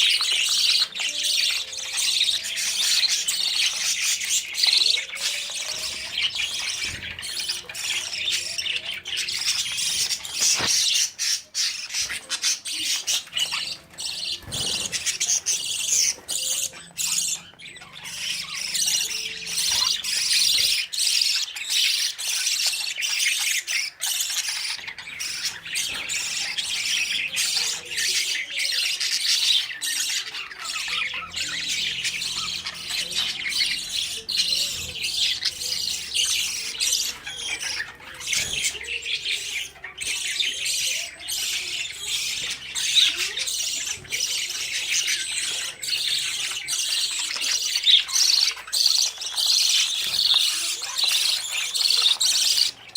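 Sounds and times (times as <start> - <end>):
budgerigars chattering and squawking: 0.0 - 52.9.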